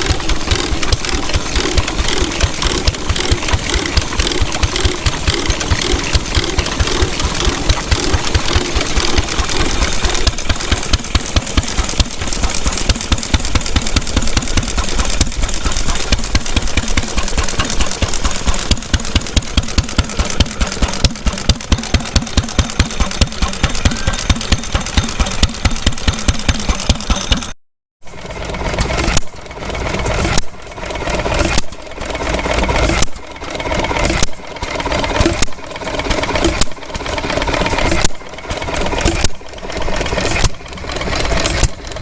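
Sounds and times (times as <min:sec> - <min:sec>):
stationary engine exhaust pulses: 0:00.0 - 0:42.0.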